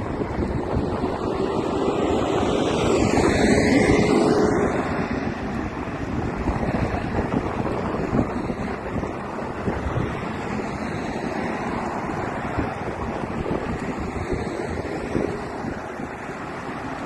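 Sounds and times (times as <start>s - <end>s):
passing engine hum: 0.0s - 17.0s
wind rushing over microphone: 0.0s - 17.0s.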